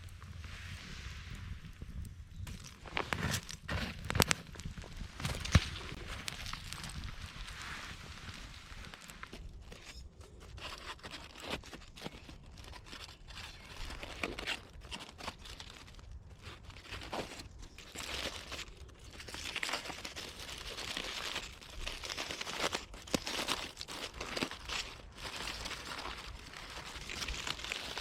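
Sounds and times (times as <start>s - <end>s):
crinkling and crunching: 0.0s - 28.0s.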